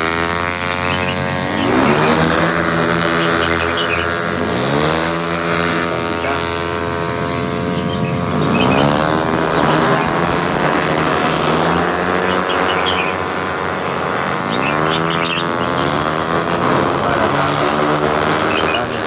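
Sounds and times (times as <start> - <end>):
motorcycle engines racing: 0.0 - 19.0.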